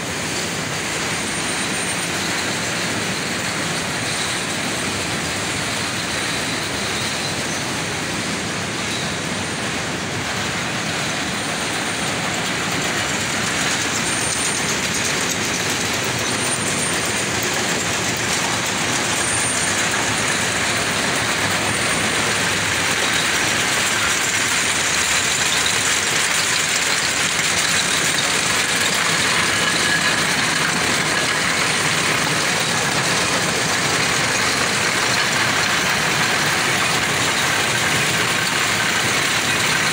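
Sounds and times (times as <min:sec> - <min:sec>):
mill machinery running: 0:00.0 - 0:39.9.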